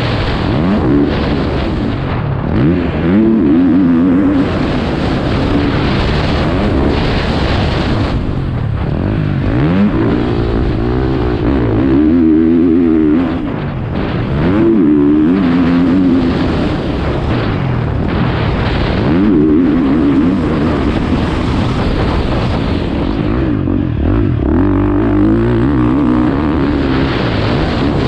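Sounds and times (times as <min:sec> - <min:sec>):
dirt bike engine revving: 0:00.0 - 0:28.0
wind noise: 0:00.0 - 0:28.0.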